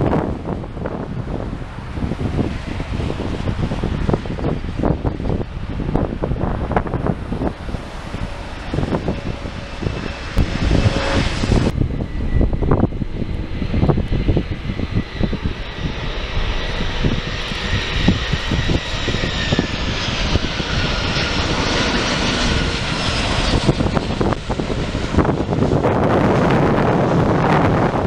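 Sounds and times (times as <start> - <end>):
jet engines roaring: 0.0 - 28.0
wind buffeting microphone: 0.0 - 28.0.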